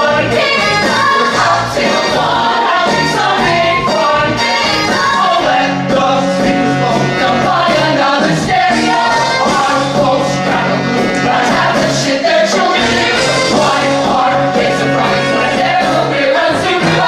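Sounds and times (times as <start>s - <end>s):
rock-pop band playing: 0.0s - 17.0s.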